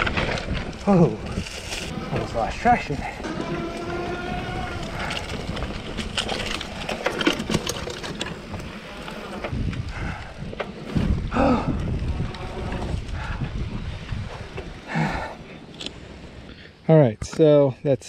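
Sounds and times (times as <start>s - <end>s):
wind buffeting microphone: 0.0s - 16.4s
bike clicks and rattles: 0.0s - 16.5s
tyre noise on dirt: 0.0s - 16.5s.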